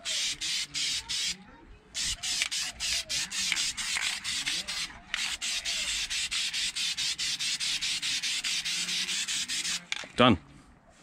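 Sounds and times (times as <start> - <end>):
aerosol spray can hissing in spurts: 0.0 - 1.4, 2.0 - 9.9.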